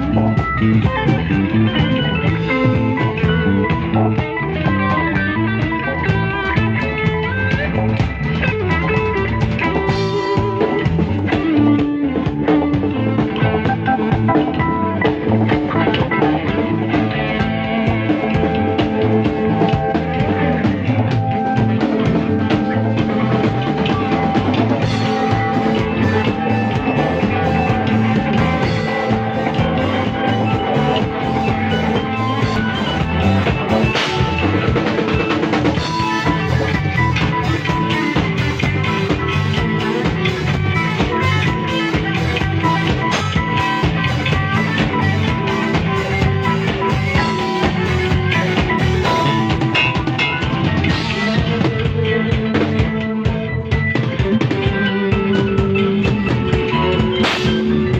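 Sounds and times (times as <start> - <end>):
drum kit: 0.0 - 57.9
live rock band: 0.0 - 57.9.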